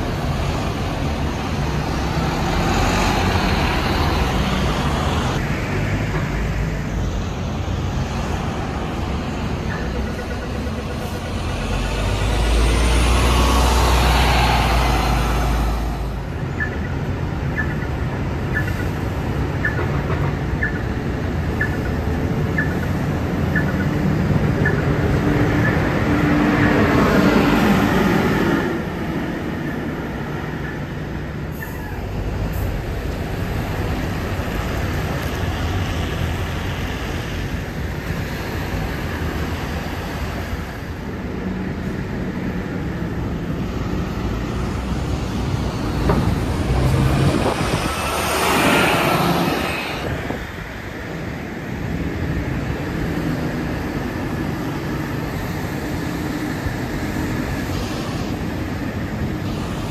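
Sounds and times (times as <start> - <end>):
buses passing with whine: 0.0 - 59.9
diesel bus engines rumbling: 0.0 - 59.9.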